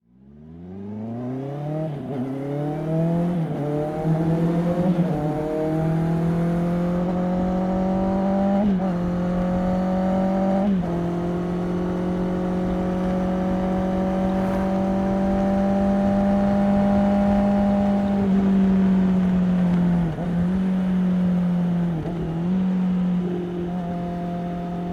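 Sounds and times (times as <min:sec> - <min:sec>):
motorcycle engine accelerating: 0:00.2 - 0:24.9.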